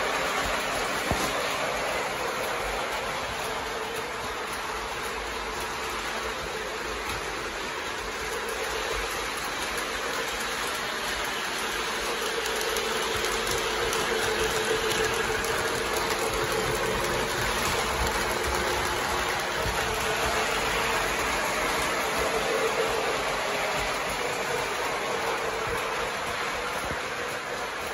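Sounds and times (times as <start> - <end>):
model train wheels and motor: 0.0 - 27.9.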